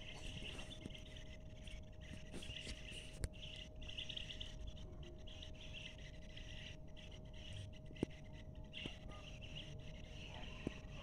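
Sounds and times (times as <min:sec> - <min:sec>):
faint steady hum: 0:00.0 - 0:11.0
small birds twittering: 0:00.0 - 0:11.0.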